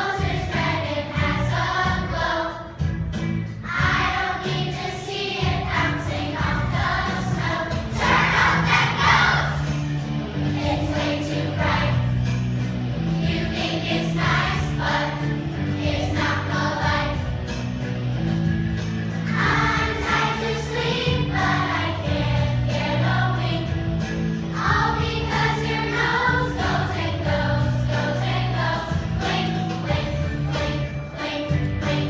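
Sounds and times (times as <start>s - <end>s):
children's choir singing: 0.0s - 32.0s
instrumental accompaniment: 0.1s - 32.0s.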